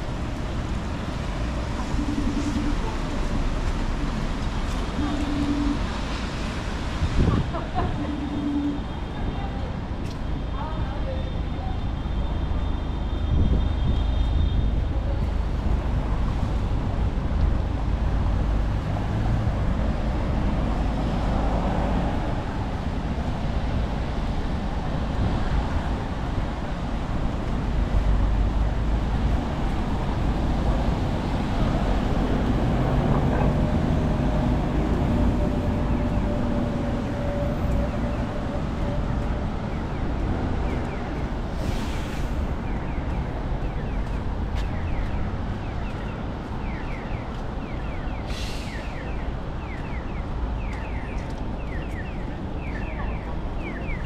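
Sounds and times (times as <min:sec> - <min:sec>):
cars passing on wet road: 0:00.0 - 0:54.0.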